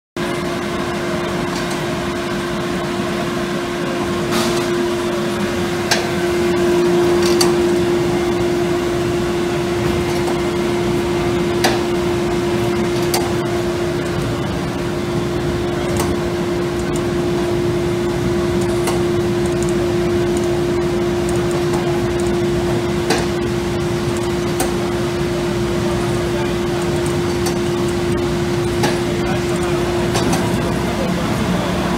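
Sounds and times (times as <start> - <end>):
roaster machine hum: 0.2 - 31.9.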